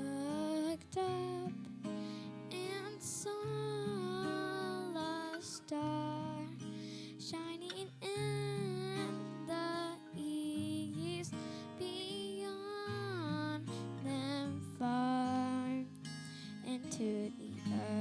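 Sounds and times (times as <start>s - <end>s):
slow gentle singing: 0.0s - 18.0s
strummed acoustic guitar: 0.0s - 18.0s.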